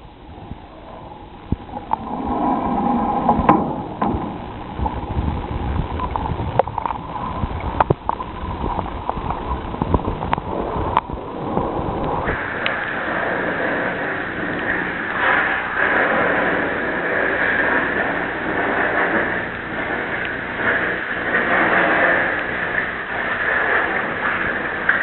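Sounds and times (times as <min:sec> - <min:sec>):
water dripping and splashing: 0:00.0 - 0:25.0
water pouring into a bath: 0:01.5 - 0:25.0.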